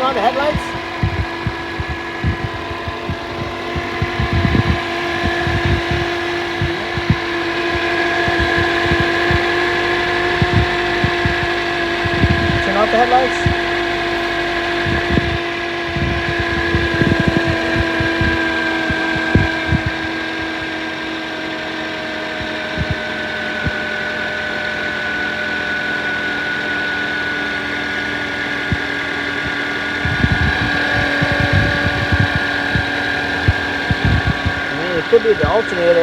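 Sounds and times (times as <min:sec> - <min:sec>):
car engine idling with whine: 0:00.0 - 0:36.0.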